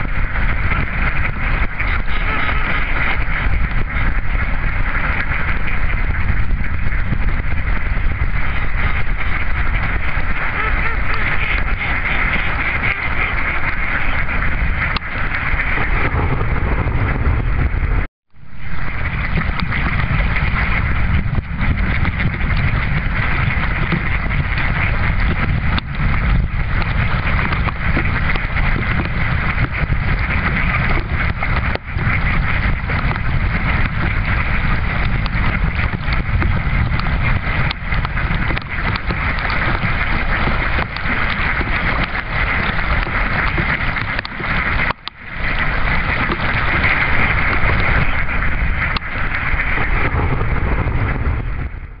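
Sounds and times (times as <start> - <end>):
ducks quacking: 0.0 - 18.1, 18.7 - 51.5
steady low rumble: 0.0 - 52.0
water splashing: 6.7 - 51.4.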